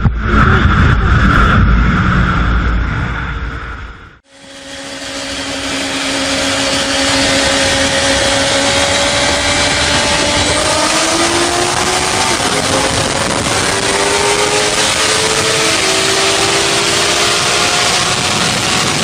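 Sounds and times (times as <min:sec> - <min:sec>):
high engine note rising: 0:00.0 - 0:19.0
motorcycle engine rumble: 0:00.0 - 0:19.0.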